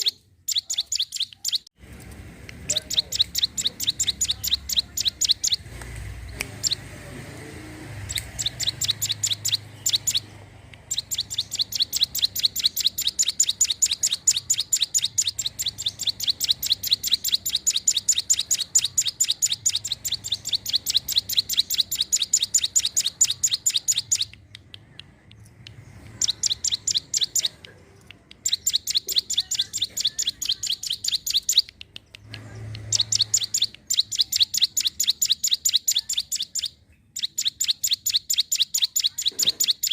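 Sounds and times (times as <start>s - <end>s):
bird singing high chips: 0.0s - 1.8s, 2.6s - 39.9s.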